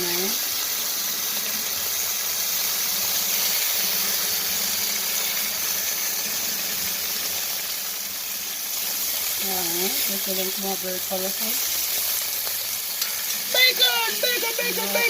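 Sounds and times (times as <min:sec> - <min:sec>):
bacon sizzling in a pan: 0:00.0 - 0:15.0.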